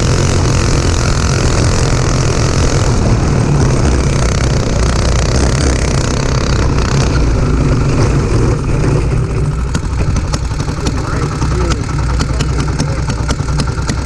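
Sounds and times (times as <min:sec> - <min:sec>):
go-kart engine running: 0:00.0 - 0:14.0.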